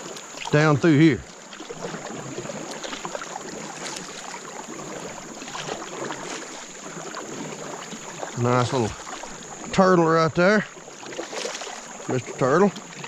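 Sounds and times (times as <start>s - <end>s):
creek water rushing: 0.0s - 13.0s
small water splashes: 0.0s - 13.0s.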